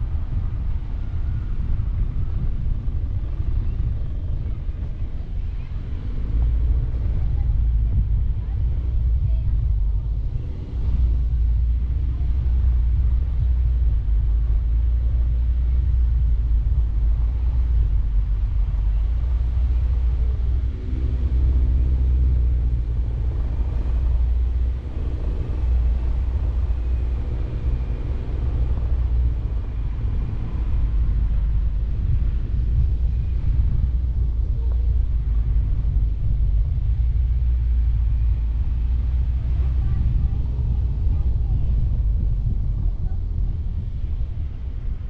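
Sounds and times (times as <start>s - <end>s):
car engine rumbling: 0.0s - 45.0s
tyres rumbling off-road: 0.0s - 45.0s.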